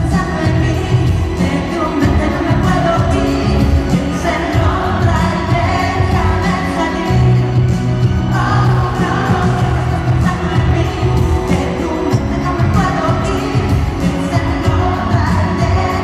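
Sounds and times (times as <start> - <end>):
electric guitar: 0.0 - 16.0
lead vocals singing: 0.0 - 16.0
live pop-rock band: 0.0 - 16.0.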